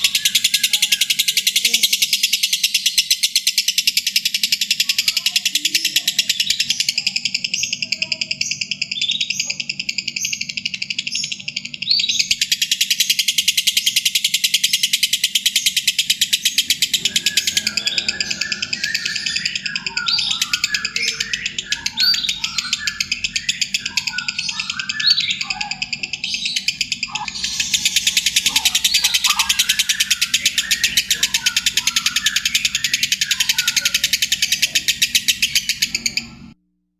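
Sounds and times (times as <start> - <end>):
lovebird scratchy chatter: 0.0 - 36.4.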